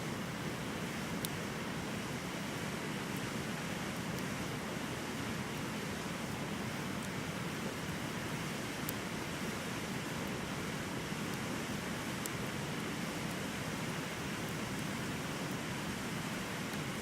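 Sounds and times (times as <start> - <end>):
bonfire hissing: 0.0 - 17.0
fire crackles: 0.0 - 17.0.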